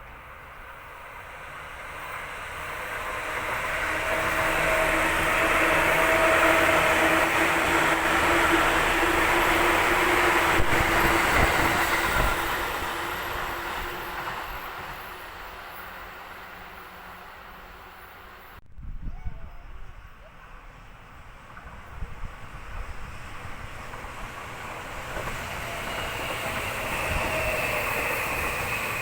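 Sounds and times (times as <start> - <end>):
electric train passing: 0.0 - 18.6, 19.7 - 29.0.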